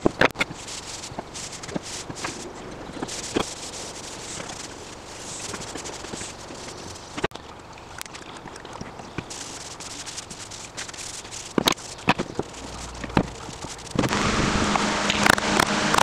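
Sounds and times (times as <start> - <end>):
cloth rubbing on wood: 0.0 - 7.2, 9.3 - 15.9
steady hiss with faint hum: 0.0 - 16.0.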